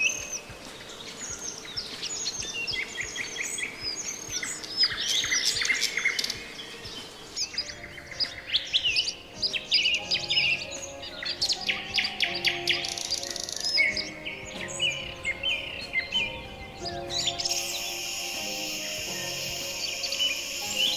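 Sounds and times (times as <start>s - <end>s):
small birds chirping: 0.0s - 20.9s
soft background music: 0.0s - 20.9s.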